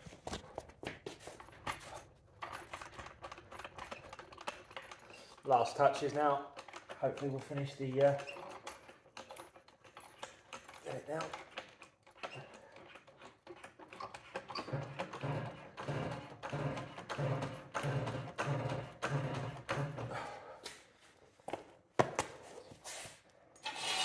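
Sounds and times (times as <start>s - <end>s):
trolley jack pumping strokes: 1.2s - 20.4s, 23.6s - 24.0s.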